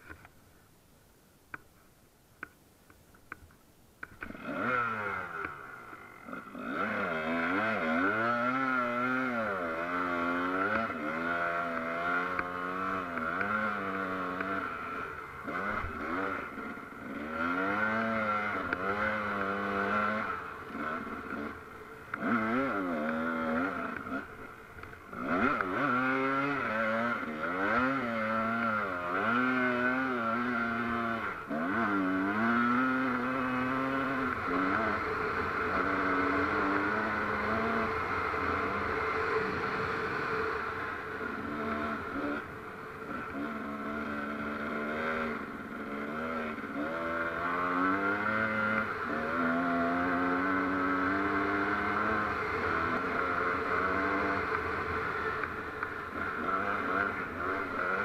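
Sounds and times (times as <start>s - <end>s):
off-road vehicle engine revving: 4.1s - 58.0s.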